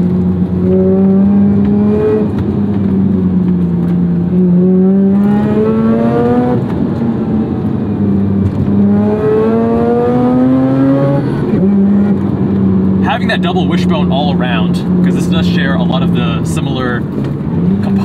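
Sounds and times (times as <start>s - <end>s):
road noise: 0.0s - 18.0s
rotary engine revving in cabin: 0.0s - 18.0s.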